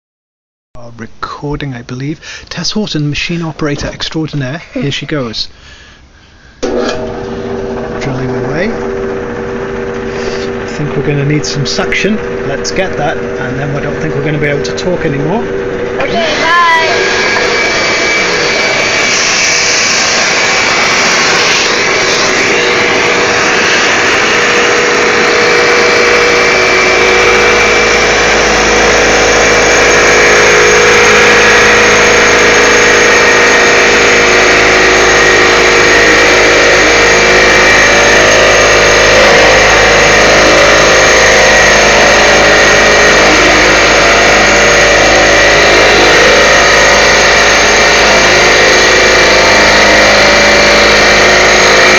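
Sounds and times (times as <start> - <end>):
drill and vacuum motor whine: 6.6 - 51.9
low hum: 6.6 - 51.9.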